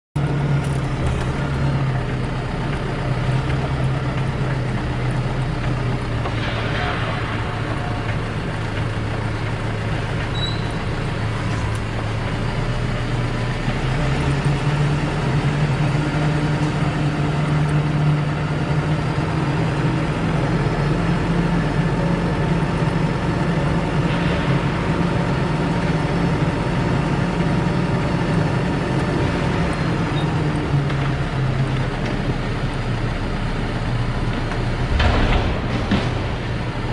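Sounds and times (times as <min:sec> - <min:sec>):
forklift engine humming: 0:00.2 - 0:36.9.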